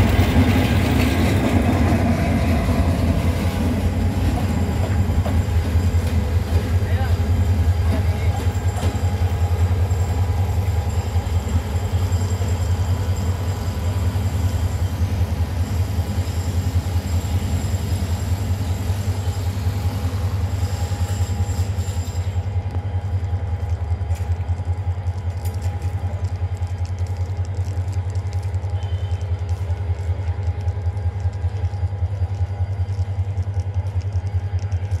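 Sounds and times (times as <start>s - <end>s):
locomotive engine rumbling: 0.0s - 35.0s.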